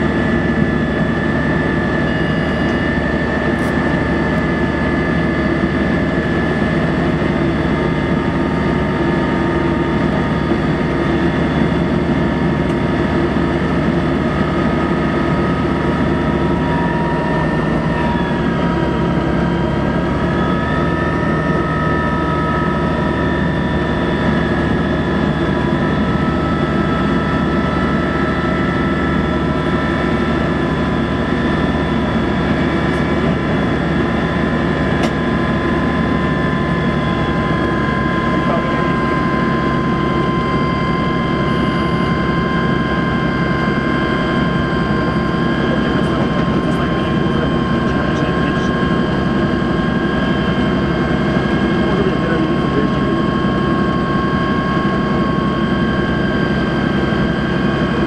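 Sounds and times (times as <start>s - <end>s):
locomotive motor whine: 0.0s - 58.0s.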